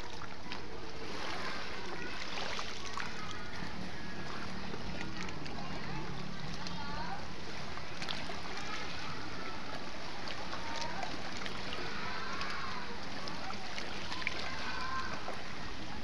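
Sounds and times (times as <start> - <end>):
faint distant voices: 0.0 - 16.0
seawater lapping on rocks: 0.0 - 16.0.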